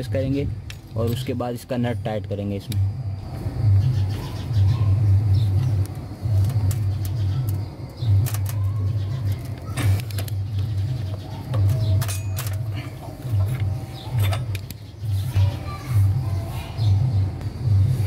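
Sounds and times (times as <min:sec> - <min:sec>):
low pulsing hum: 0:02.7 - 0:18.0.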